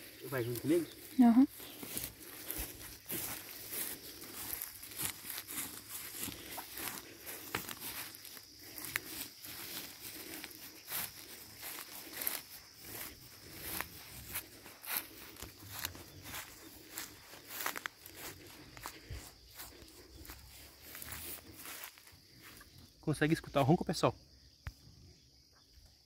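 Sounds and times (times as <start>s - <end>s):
footsteps through long grass: 0.0s - 22.9s.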